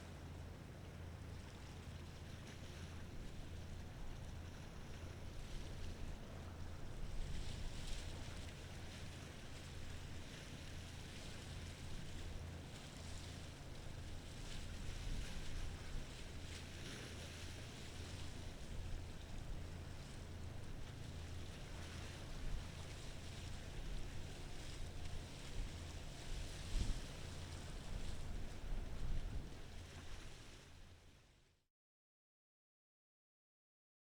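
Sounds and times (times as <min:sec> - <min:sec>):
waves: 0:00.0 - 0:31.6
wind: 0:00.0 - 0:31.6.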